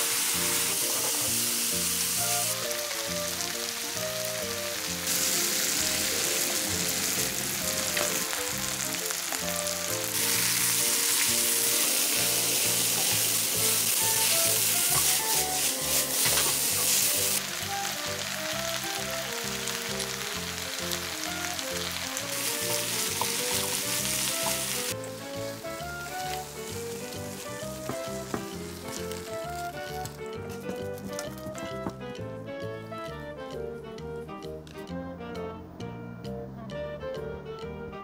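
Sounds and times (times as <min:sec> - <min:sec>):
meat and vegetables sizzling in pan: 0:00.0 - 0:32.0.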